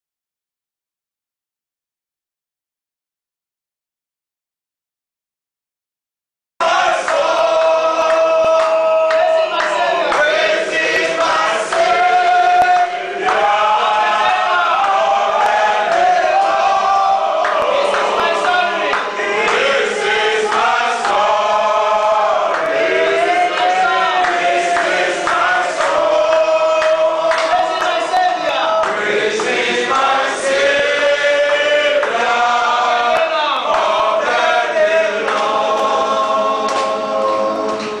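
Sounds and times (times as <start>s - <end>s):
men singing a worship song: 6.6s - 38.0s.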